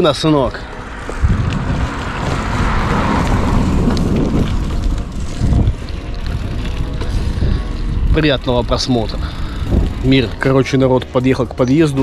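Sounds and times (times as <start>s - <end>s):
car passing: 0.0s - 10.8s
wind buffeting microphone: 0.7s - 11.1s.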